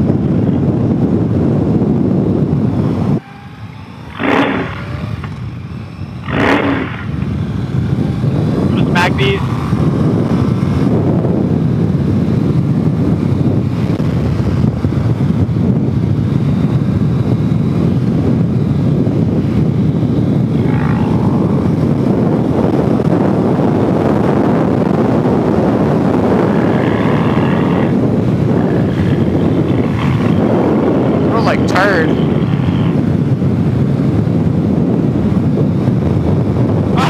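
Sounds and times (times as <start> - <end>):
motorcycle engine cruising: 0.0 - 37.0
road noise: 0.0 - 37.0
wind rushing over microphone: 0.0 - 37.0.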